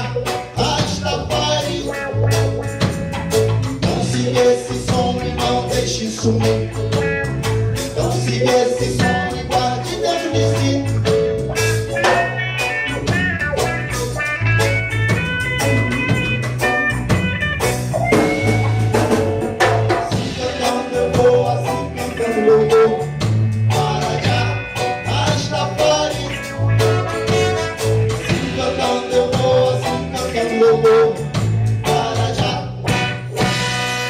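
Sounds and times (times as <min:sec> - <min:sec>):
bass line: 0:00.0 - 0:34.0
drum kit: 0:00.0 - 0:34.0
guitar: 0:00.0 - 0:34.0.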